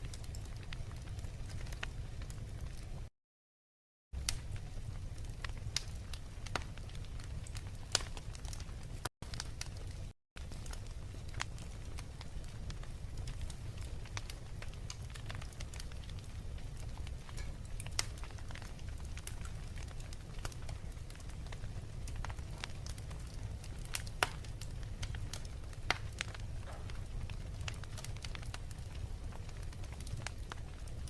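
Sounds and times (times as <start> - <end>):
fireplace fire crackling: 0.0 - 3.1, 4.2 - 31.0.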